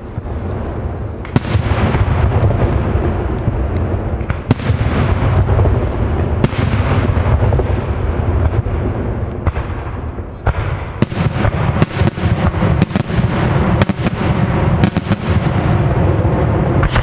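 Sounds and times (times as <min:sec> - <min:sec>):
fireworks booming: 0:00.0 - 0:17.0
sharp firework cracks: 0:00.0 - 0:17.0.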